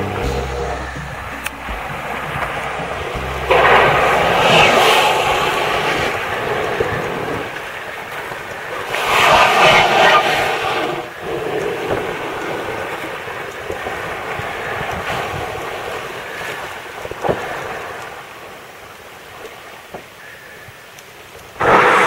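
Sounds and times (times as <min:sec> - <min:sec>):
wind on microphone: 0:00.0 - 0:18.2
sea water washing around boat: 0:00.0 - 0:22.0.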